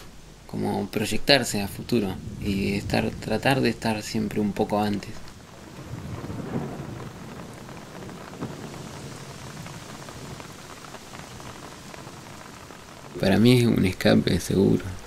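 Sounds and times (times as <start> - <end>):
raindrops: 0.0 - 15.0
steady rain: 0.0 - 15.0.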